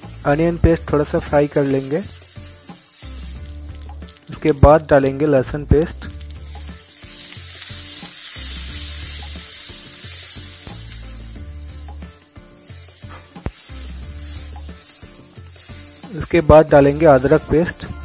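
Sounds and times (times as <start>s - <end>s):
paste sizzling in hot oil: 0.0s - 18.0s.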